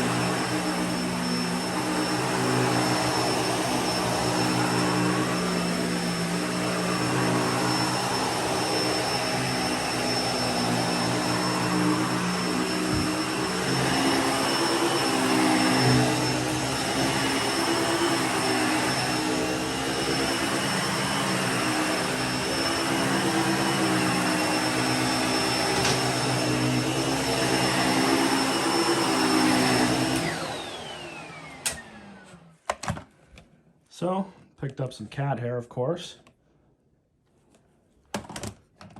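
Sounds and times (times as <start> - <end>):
vacuum motor winding down: 0.0 - 32.4
vacuum cleaner running: 0.0 - 32.6.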